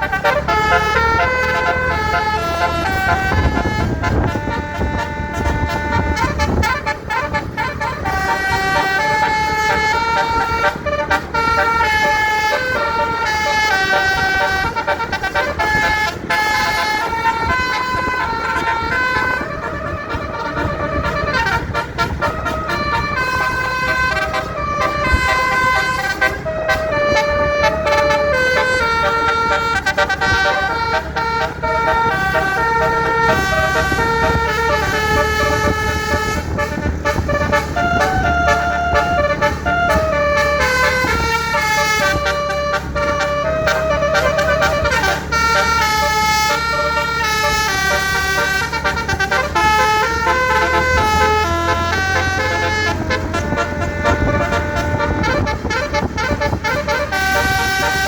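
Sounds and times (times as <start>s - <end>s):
bus horn playing melody: 0.0s - 58.0s
low steady rumble: 0.0s - 58.0s.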